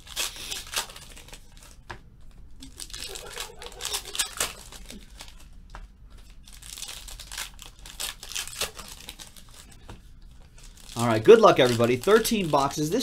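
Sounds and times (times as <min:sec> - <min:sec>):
foil wrappers tearing and crinkling: 0:00.0 - 0:01.8, 0:02.6 - 0:05.6, 0:06.2 - 0:09.8, 0:10.4 - 0:13.0.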